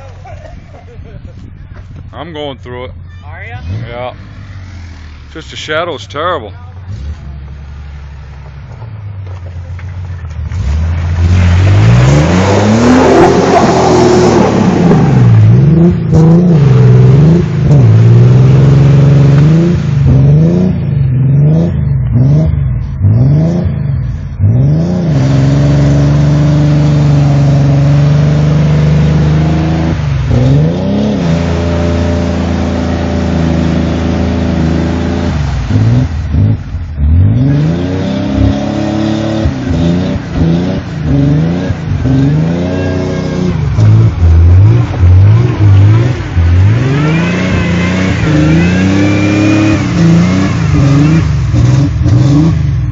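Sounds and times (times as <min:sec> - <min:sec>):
truck engine revving: 0:01.4 - 0:52.9
splashing and tyre churn: 0:03.6 - 0:52.9.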